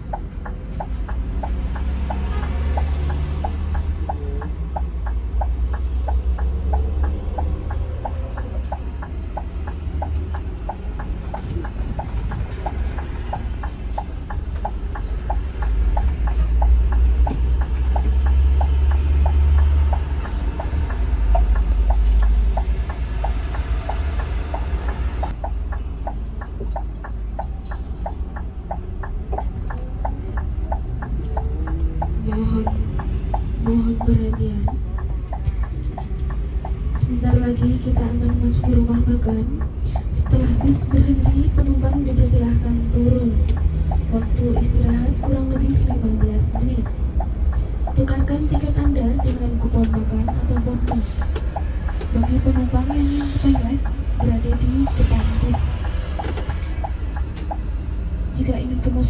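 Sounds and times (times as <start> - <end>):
diesel engine rumble: 0.0 - 59.0
turn signal relay ticking: 0.0 - 59.0.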